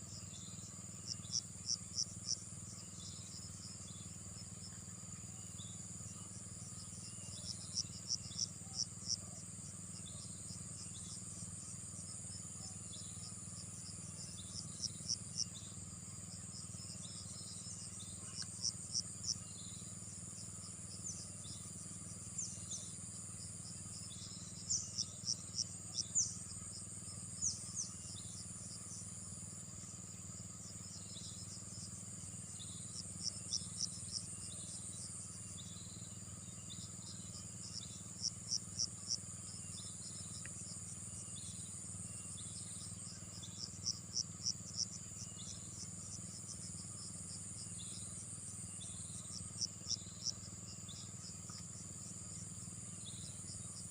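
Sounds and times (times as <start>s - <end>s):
insects trilling: 0.0s - 53.9s.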